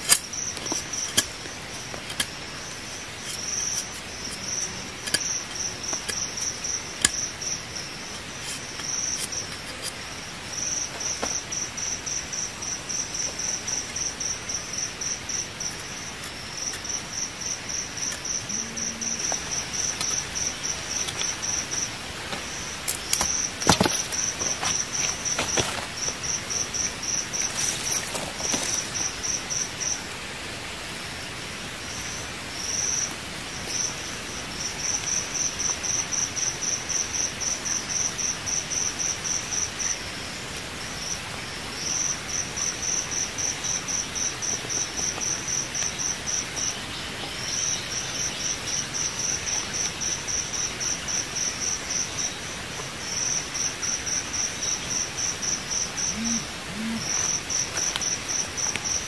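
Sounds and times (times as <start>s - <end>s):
insect chirping: 0.0s - 59.0s
steady hiss: 0.0s - 59.0s.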